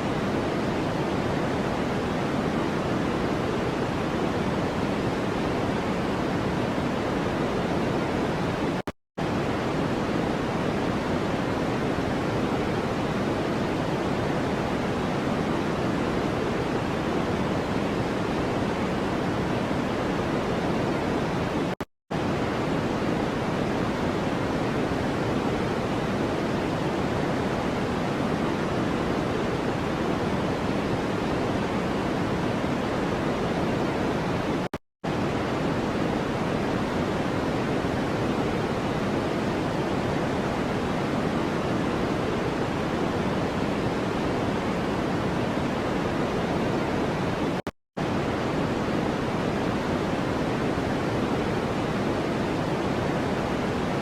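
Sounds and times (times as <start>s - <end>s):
steady rushing noise hiss: 0.0s - 54.0s.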